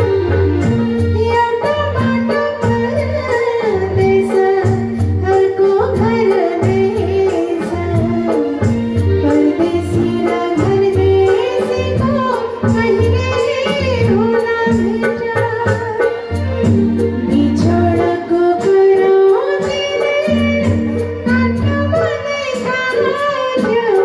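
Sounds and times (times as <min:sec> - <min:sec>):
backing music with steady beat: 0:00.0 - 0:24.0
woman singing into microphone: 0:00.0 - 0:24.0.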